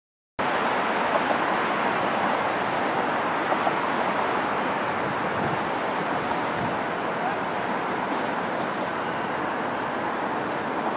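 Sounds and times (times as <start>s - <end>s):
city traffic noise: 0.4s - 10.9s.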